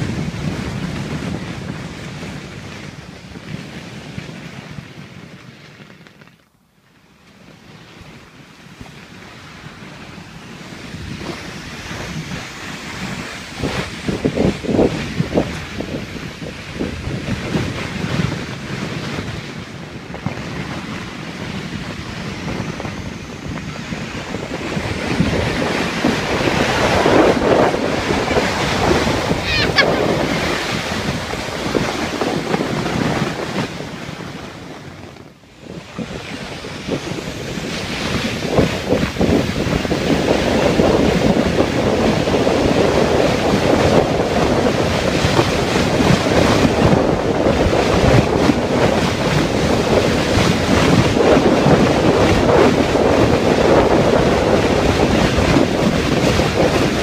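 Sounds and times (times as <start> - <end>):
wind buffeting microphone: 0.0 - 6.3, 7.0 - 57.0
sled sliding over snow: 0.0 - 57.0.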